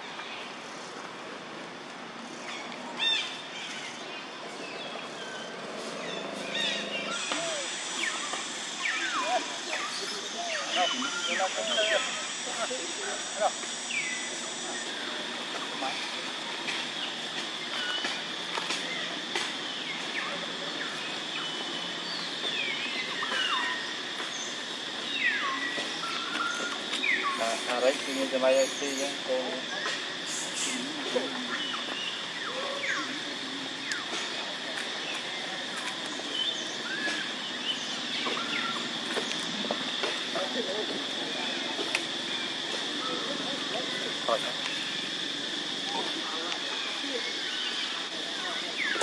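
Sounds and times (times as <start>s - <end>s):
outdoor background noise: 0.0s - 49.0s
steady high drone: 4.5s - 49.0s.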